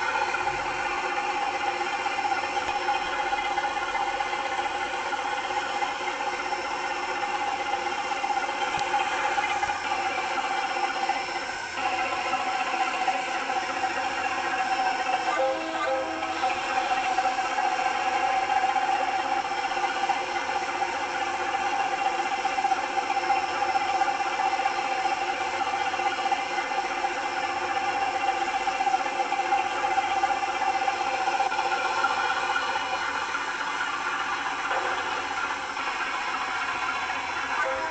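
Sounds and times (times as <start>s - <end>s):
locomotive engine running: 0.0s - 37.9s.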